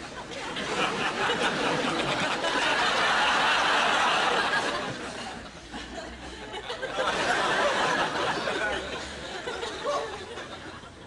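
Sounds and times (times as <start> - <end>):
audience laughter: 0.0 - 11.0.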